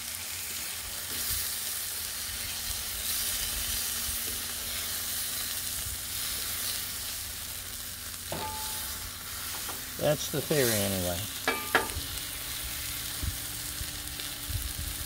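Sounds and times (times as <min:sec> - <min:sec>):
steaks sizzling on griddle: 0:00.0 - 0:15.0.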